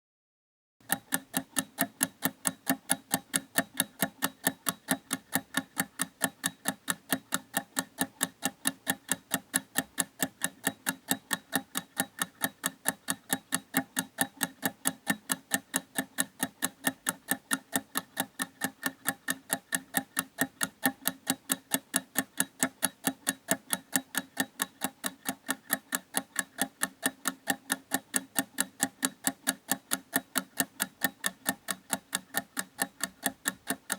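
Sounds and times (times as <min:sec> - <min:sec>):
timer ticking fast: 0:00.8 - 0:33.9.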